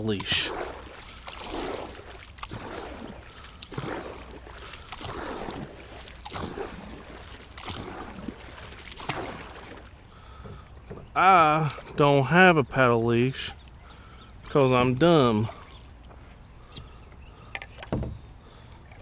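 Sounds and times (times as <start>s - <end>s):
paddle strokes splashing water: 0.0s - 12.3s, 13.4s - 19.0s.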